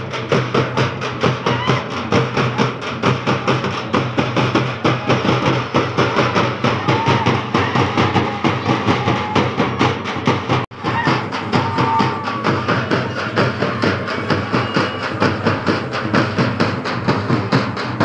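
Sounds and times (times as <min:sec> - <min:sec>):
frame drums beating: 0:00.0 - 0:18.0.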